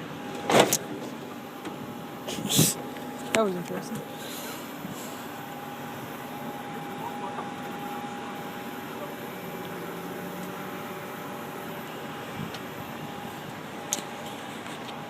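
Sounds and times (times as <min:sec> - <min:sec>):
constant mechanical whine: 0:00.0 - 0:15.0
fire truck engine and hydraulics: 0:00.0 - 0:15.0.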